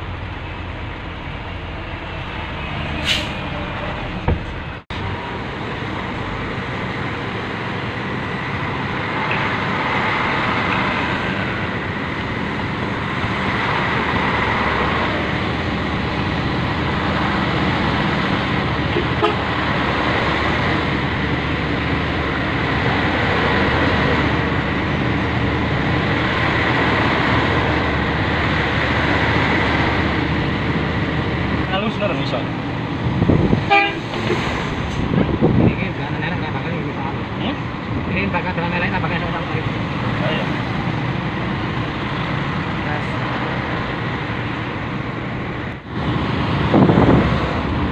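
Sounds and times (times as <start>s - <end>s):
truck engine and road noise: 0.0s - 47.9s.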